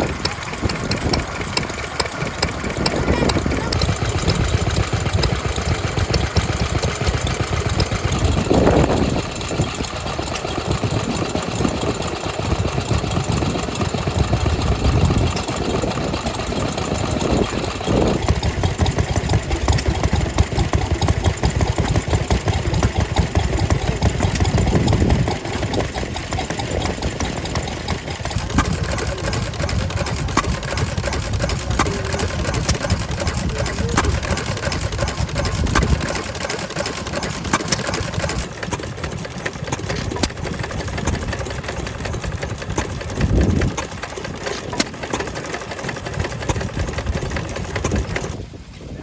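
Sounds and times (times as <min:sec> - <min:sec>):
wind buffeting microphone: 0:00.0 - 0:44.9, 0:45.9 - 0:49.0
old stationary engines chugging: 0:00.0 - 0:49.0.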